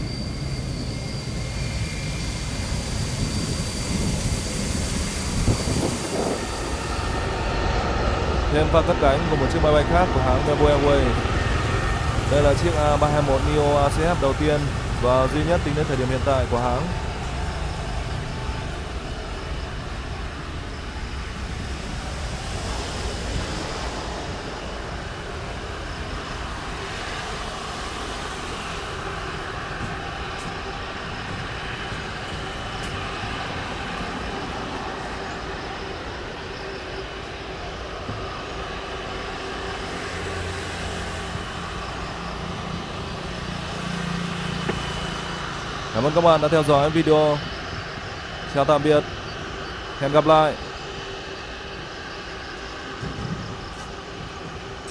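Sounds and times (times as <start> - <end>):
jet engines at takeoff: 0.0 - 54.9.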